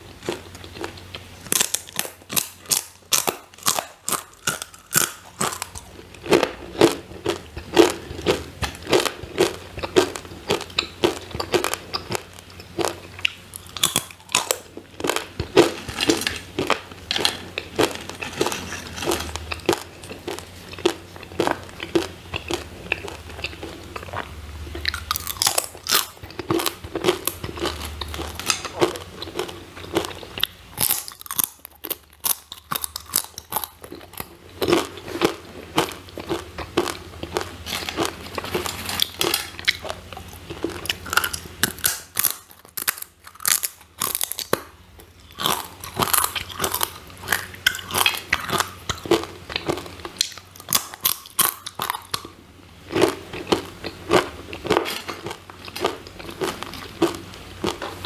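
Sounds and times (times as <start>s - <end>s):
crunching crispy chips: 0.2s - 58.0s.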